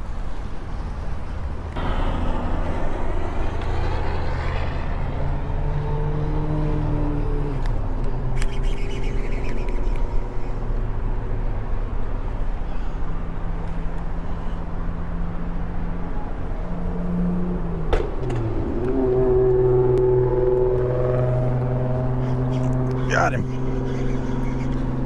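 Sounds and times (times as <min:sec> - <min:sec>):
engine drone with humming tones: 0:00.0 - 0:25.0.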